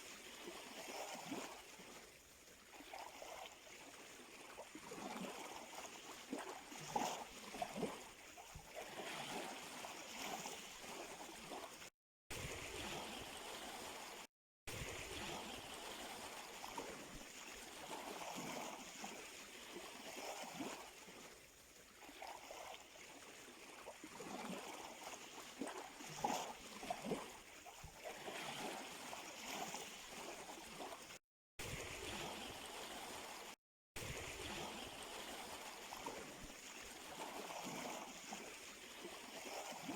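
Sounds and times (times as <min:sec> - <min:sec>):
small waves lapping at shore: 0:00.0 - 0:39.9
water gurgling and trickling: 0:00.0 - 0:39.9.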